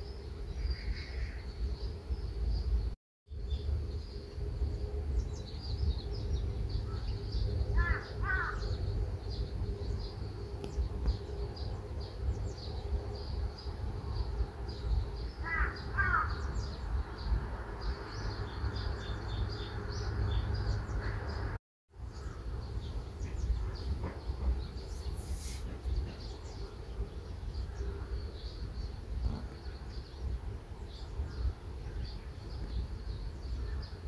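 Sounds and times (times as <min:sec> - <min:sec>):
small birds chirping: 0:00.0 - 0:34.0
steady low rumble: 0:00.2 - 0:34.0.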